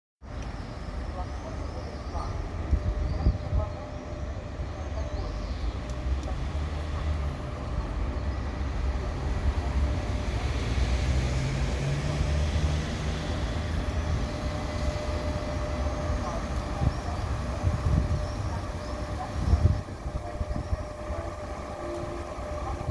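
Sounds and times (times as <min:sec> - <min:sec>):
electric locomotive rumbling: 0:00.2 - 0:22.9
locomotive hum: 0:00.2 - 0:22.9.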